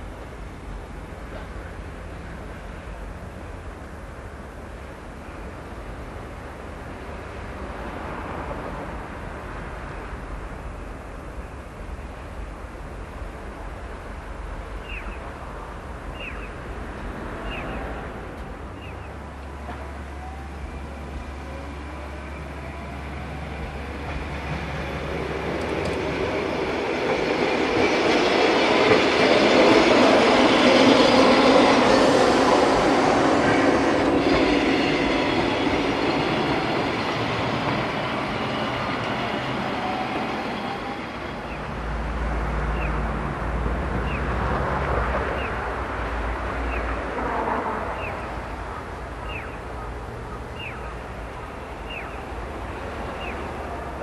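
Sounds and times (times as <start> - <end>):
road traffic engine hum: 0.0 - 54.0
tram wheels rumbling on track: 0.0 - 54.0.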